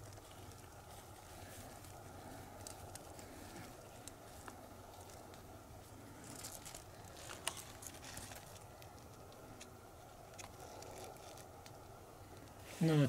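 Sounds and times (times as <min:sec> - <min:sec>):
faint clicks and crackles: 0:00.0 - 0:12.8
low background hiss: 0:00.0 - 0:13.0.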